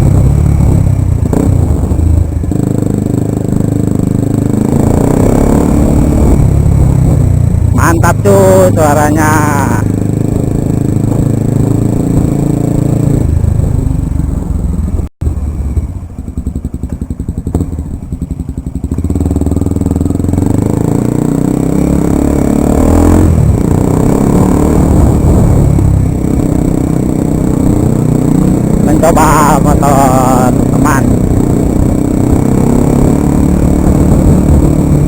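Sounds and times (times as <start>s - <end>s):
motorcycle engine while riding: 0.0s - 35.0s.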